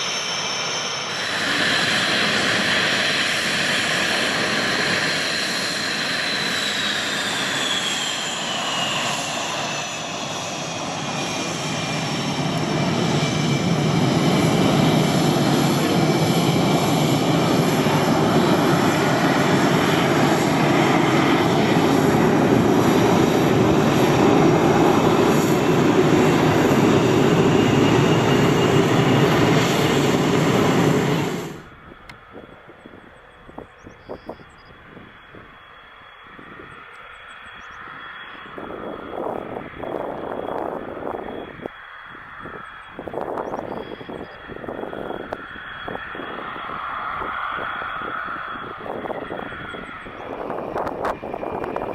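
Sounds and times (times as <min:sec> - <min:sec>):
jet engine roar: 0:00.0 - 0:51.9
jet engine whine: 0:00.0 - 0:51.9.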